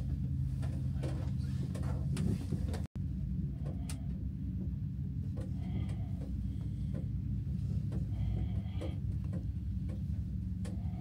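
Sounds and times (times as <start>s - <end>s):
cable car cabin hum: 0.0s - 11.0s.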